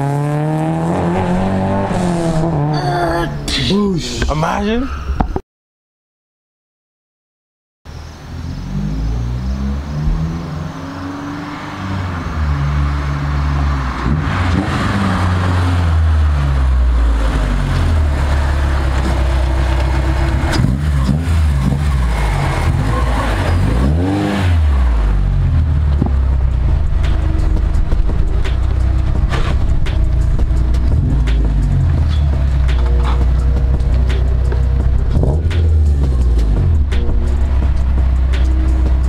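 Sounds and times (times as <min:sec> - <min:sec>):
car engine revving: 0:00.0 - 0:03.4, 0:08.3 - 0:39.0.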